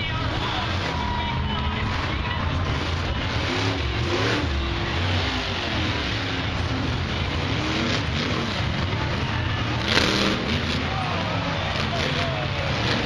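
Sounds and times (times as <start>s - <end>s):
truck engine revving with deep rumble: 0.0s - 13.0s.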